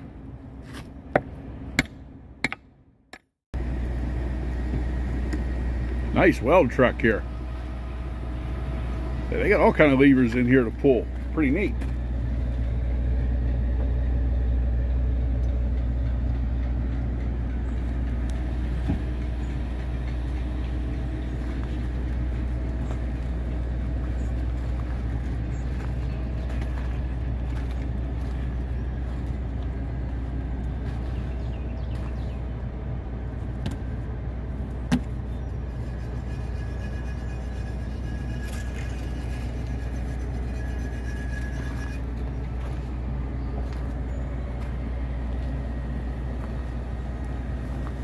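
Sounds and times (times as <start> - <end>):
truck engine idling: 0.0 - 48.0.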